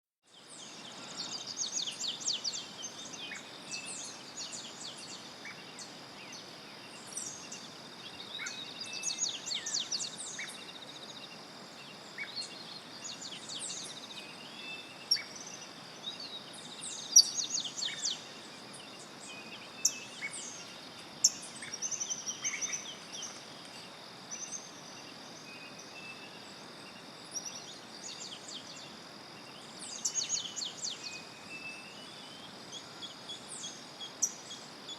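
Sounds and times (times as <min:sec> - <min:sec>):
faint hiss: 0:00.3 - 0:34.9.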